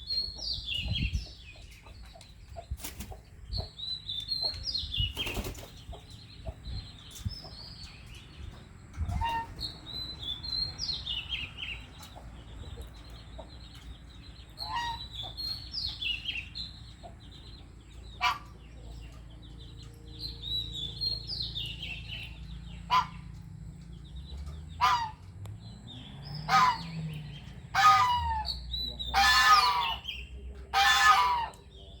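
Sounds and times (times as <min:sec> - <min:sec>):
harsh bird calls: 0:02.8 - 0:32.0.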